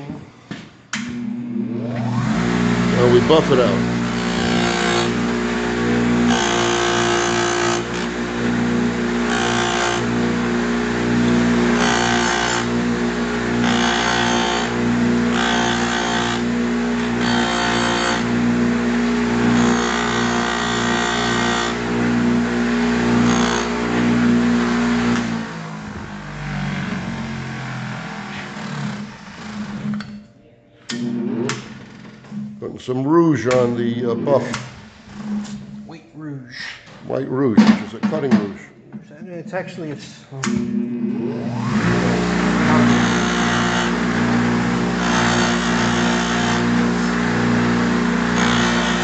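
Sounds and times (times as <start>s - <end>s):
bench grinder motor hum: 1.0s - 30.2s, 33.4s - 35.9s, 40.5s - 49.0s.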